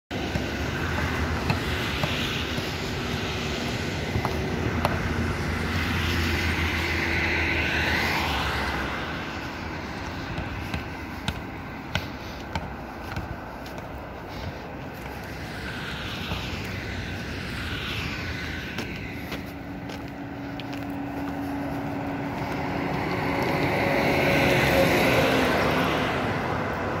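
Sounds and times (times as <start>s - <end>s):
vehicle engine droning: 0.1s - 27.0s.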